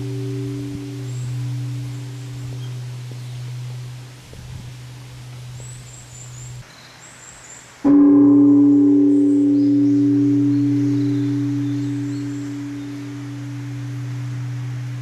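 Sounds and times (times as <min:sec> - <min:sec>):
large temple bell ringing: 0:00.0 - 0:05.6, 0:07.9 - 0:15.0.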